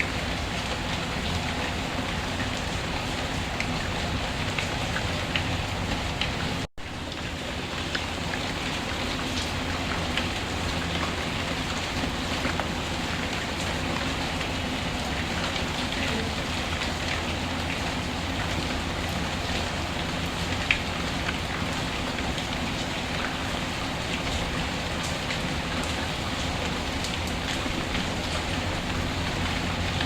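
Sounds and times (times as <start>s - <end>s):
light ticks of raindrops: 0.0s - 30.0s
steady rain: 0.0s - 30.0s.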